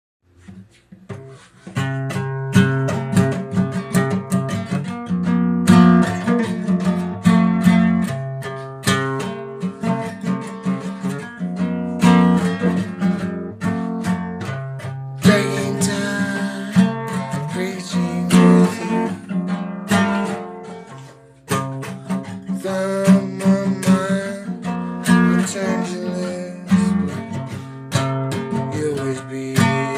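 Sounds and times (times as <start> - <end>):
acoustic guitar strumming and picking: 0.4 - 29.9.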